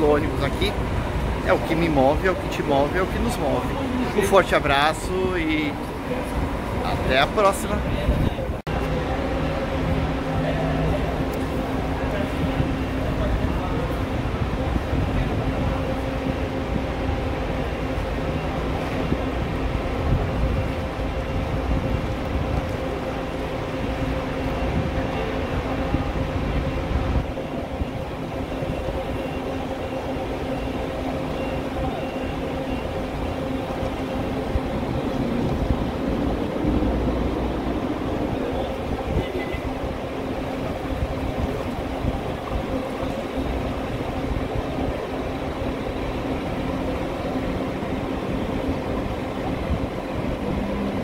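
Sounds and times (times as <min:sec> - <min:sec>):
coach diesel engine rumbling: 0:00.0 - 0:51.0.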